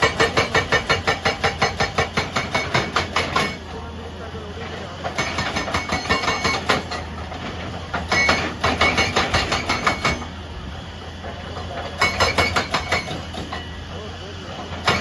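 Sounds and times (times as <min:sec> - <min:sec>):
hydraulic breaker hammering: 0:00.0 - 0:03.8, 0:05.0 - 0:10.4, 0:11.3 - 0:13.8, 0:14.6 - 0:15.0
excavator engine running: 0:00.0 - 0:15.0.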